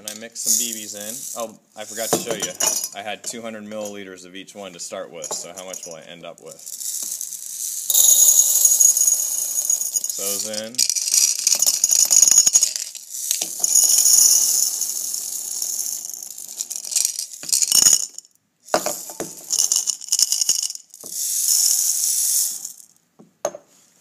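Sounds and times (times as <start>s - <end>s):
marbles rattling in container: 0.4s - 3.0s, 5.6s - 22.9s.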